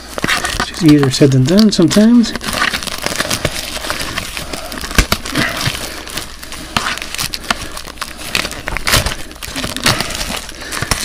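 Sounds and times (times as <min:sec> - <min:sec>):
plastic shrink-wrap crinkling: 0:00.0 - 0:11.0.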